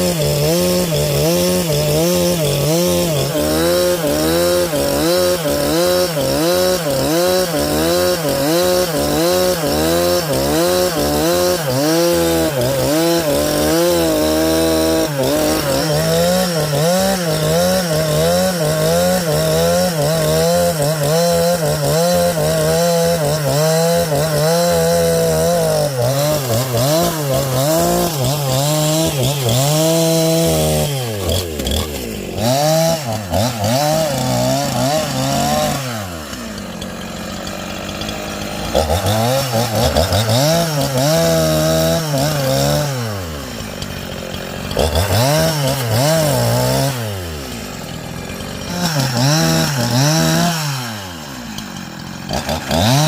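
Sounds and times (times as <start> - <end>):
chainsaw sawing a log: 0.0 - 53.0.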